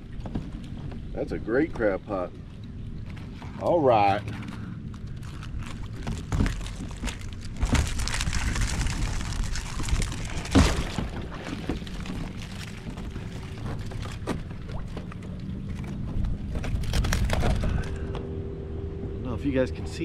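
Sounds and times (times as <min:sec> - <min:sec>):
water splashing and pouring: 0:00.0 - 0:17.9.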